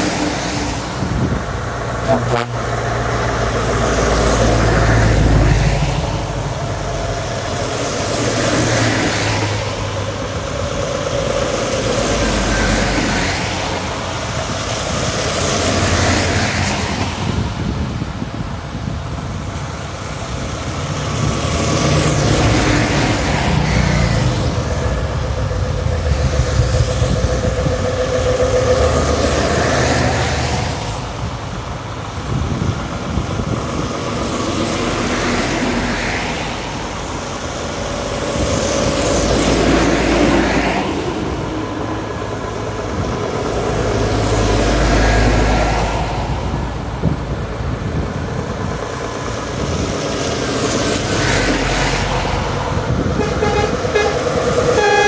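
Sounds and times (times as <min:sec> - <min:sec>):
lorries driving past: 0:00.0 - 0:55.0.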